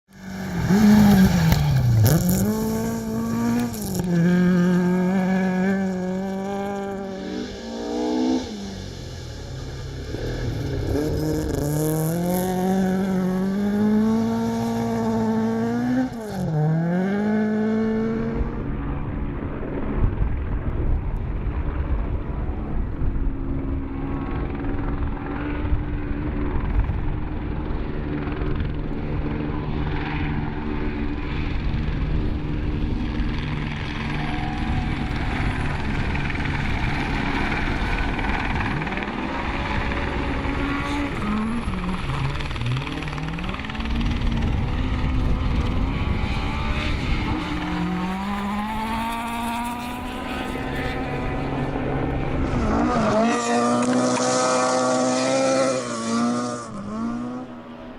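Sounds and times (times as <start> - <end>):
rally car engine revving: 0.1 - 19.2, 27.8 - 57.9.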